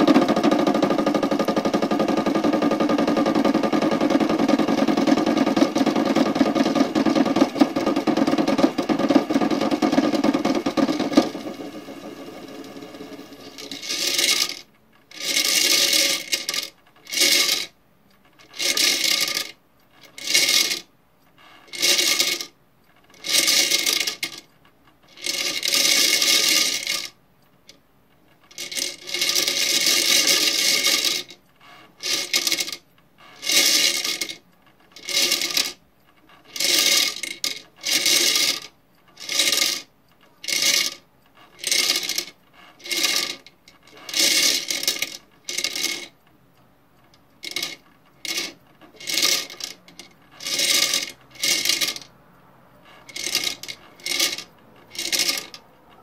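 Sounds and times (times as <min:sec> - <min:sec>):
mints rattling in plastic drum: 0:00.0 - 0:17.7, 0:18.4 - 0:20.8, 0:21.7 - 0:24.4, 0:25.1 - 0:27.1, 0:28.5 - 0:31.4, 0:32.0 - 0:32.8, 0:33.4 - 0:35.8, 0:36.4 - 0:46.2, 0:47.4 - 0:52.1, 0:52.8 - 0:56.0.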